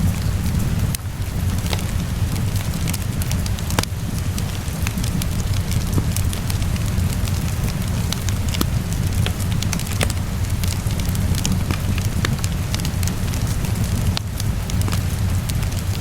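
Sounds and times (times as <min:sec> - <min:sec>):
rain falling: 0:00.0 - 0:16.0
wood fire crackling and popping: 0:00.0 - 0:16.0.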